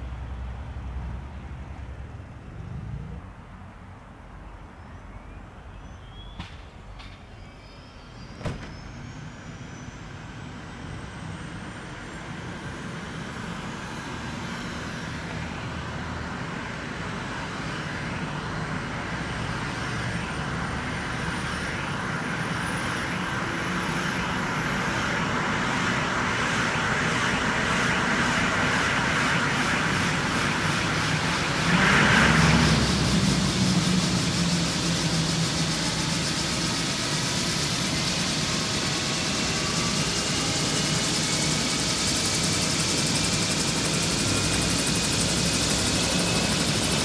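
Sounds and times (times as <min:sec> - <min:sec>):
helicopter turbine whine: 0:07.5 - 0:47.0.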